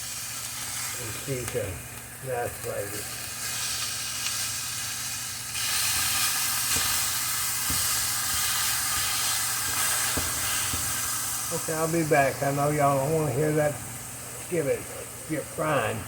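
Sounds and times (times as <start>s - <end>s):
burger patties sizzling in a skillet: 0.0s - 16.0s.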